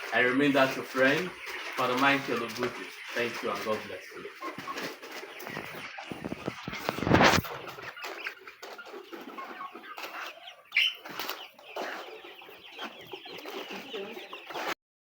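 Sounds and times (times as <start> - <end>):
chicken squawk: 0.0 - 14.8
chickens clucking and chirping: 0.0 - 14.8.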